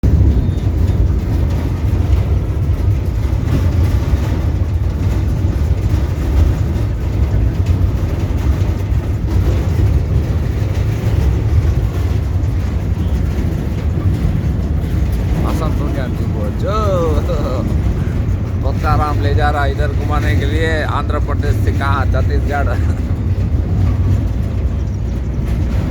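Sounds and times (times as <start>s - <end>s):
truck engine and road rumble: 0.0s - 25.9s.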